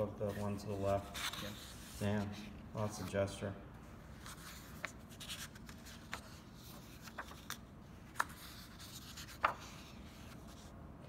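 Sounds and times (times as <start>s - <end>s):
paper rustling: 0.2s - 3.3s, 4.1s - 10.7s.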